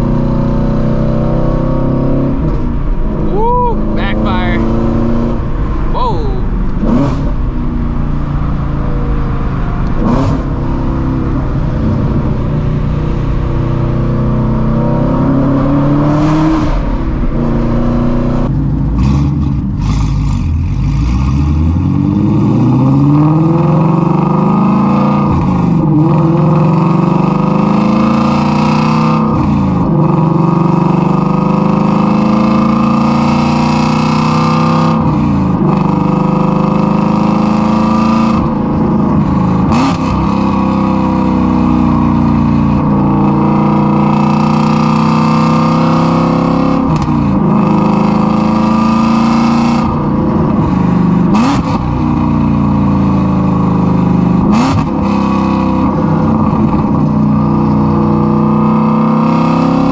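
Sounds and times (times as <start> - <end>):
loud car engine revving: 0.0 - 59.9.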